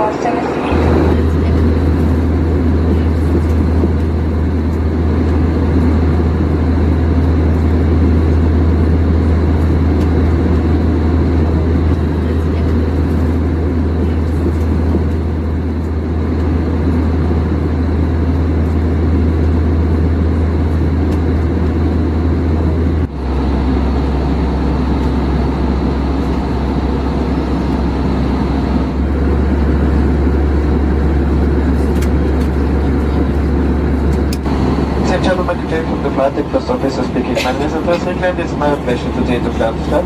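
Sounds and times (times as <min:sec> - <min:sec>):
airplane cabin engine drone: 0:00.0 - 0:40.0
deep hum: 0:00.0 - 0:40.0.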